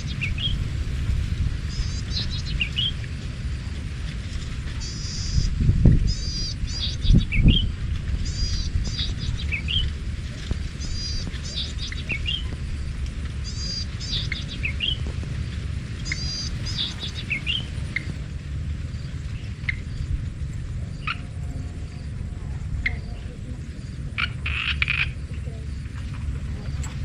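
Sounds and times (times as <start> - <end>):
songbird singing: 0.0 - 27.0
wind rumble on microphone: 0.0 - 27.0.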